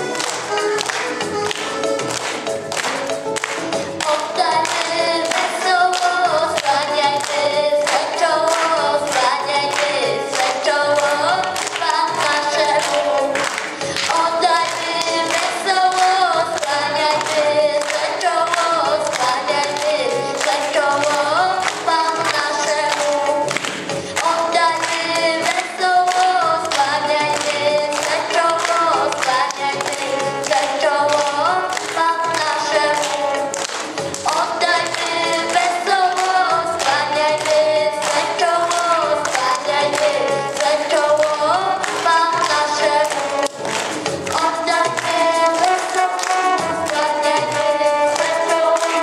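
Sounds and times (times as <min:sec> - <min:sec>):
hand clapping: 0:00.0 - 0:49.0
children singing in unison: 0:04.0 - 0:49.0.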